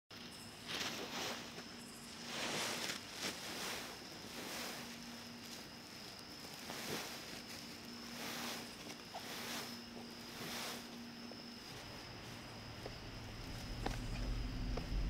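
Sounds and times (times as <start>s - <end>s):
rustling and scraping: 0.2s - 15.0s
faint low hum: 0.3s - 15.0s.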